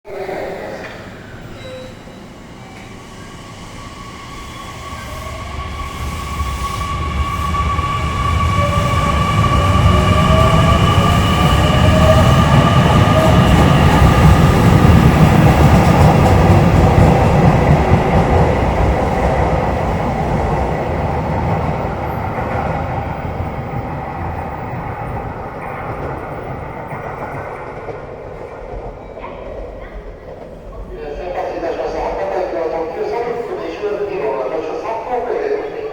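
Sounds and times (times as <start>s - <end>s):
train rumbling past on rails: 0.1s - 35.9s.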